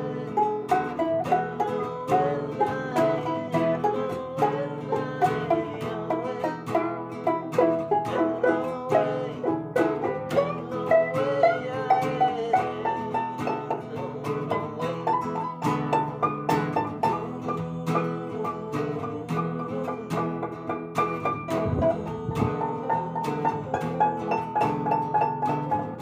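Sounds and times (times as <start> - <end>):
acoustic guitar strumming: 0.0 - 26.0
banjo plucking: 0.0 - 26.0.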